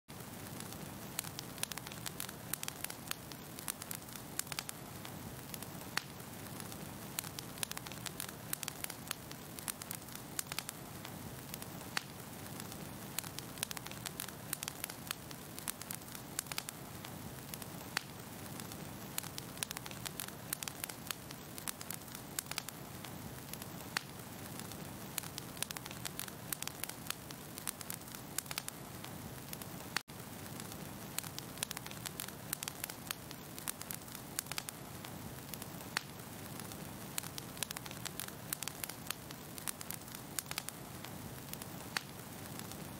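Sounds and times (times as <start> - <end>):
fire crackling and popping: 0.1 - 42.9.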